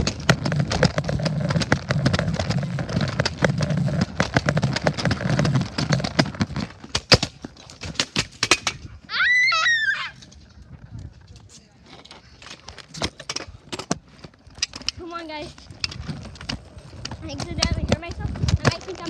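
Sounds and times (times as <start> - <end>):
scooter rumbling over pavement: 0.0 - 9.1, 10.1 - 19.0.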